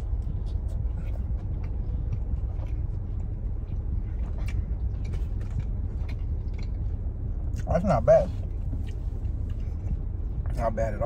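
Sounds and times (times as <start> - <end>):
person chewing crunchy food: 0.0 - 10.7
car interior rumble: 0.0 - 11.0.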